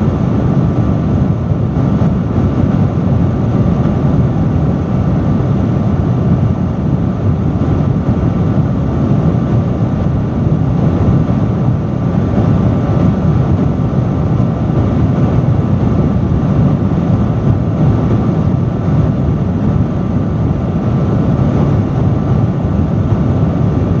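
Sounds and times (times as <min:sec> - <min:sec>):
faint steady hum: 0:00.0 - 0:24.0
industrial fan rushing air: 0:00.0 - 0:24.0.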